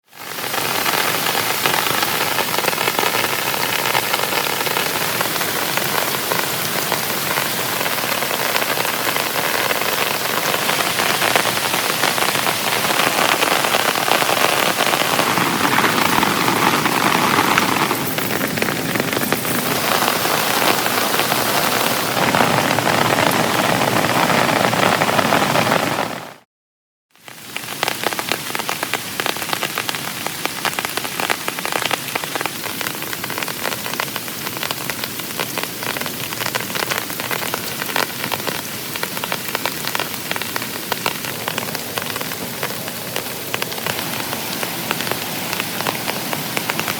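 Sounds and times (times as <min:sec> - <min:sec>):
heavy rain falling: 0:00.0 - 0:26.4, 0:27.2 - 0:46.9.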